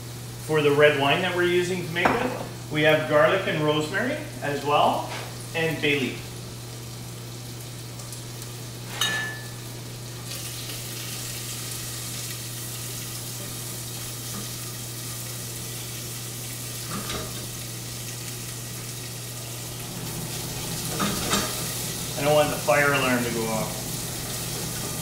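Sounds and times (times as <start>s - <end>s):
food sizzling in saucepan: 1.8s - 25.0s.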